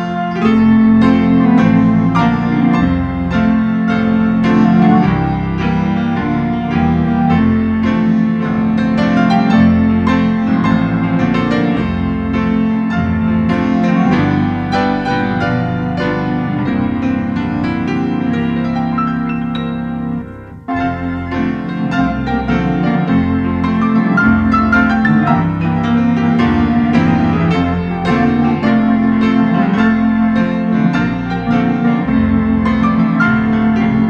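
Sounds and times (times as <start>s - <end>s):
piano notes: 0.0s - 34.0s.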